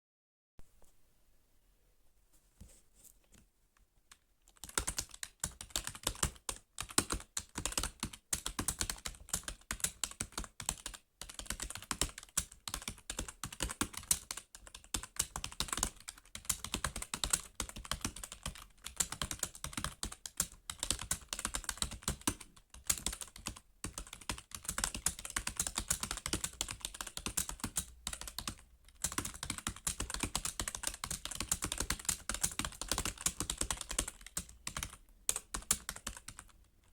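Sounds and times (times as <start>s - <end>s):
fast typing on keyboard: 4.5s - 36.6s.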